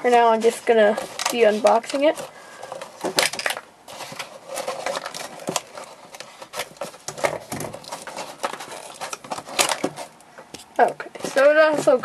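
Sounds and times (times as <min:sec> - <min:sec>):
plastic scraping against cardboard: 0:00.0 - 0:12.0.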